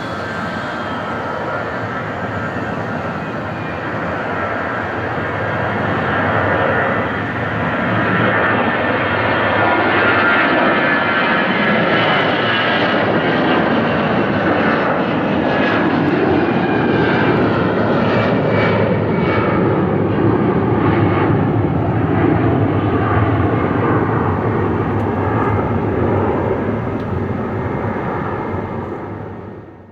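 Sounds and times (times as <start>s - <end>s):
jet engines roaring: 0.0s - 29.9s.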